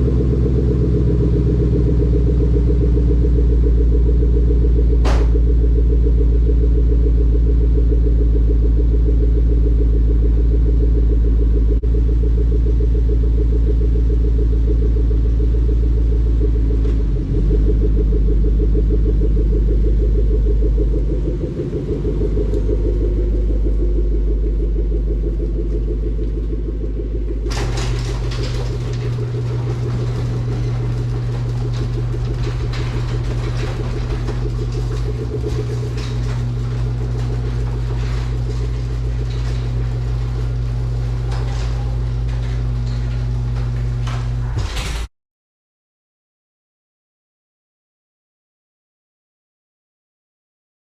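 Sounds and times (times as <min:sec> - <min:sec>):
car engine idling: 0:00.0 - 0:44.6.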